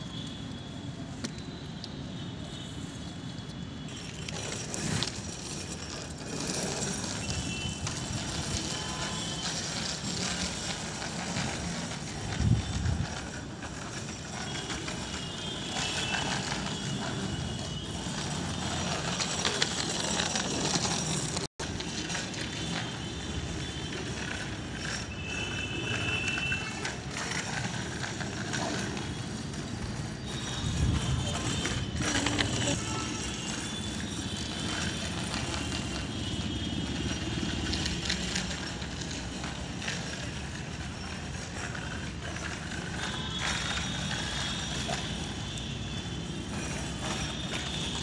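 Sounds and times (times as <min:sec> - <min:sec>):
bicycle rolling over tiles: 0:03.8 - 0:48.0.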